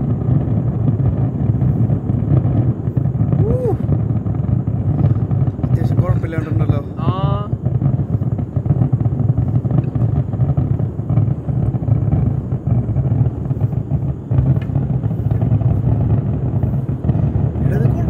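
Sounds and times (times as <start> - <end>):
firework explosions barrage: 0.0 - 18.0.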